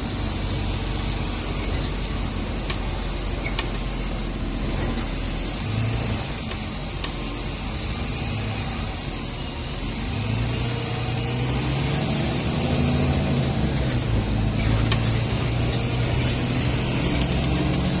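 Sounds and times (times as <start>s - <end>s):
bus engine humming: 0.0s - 18.0s
road noise: 0.0s - 18.0s.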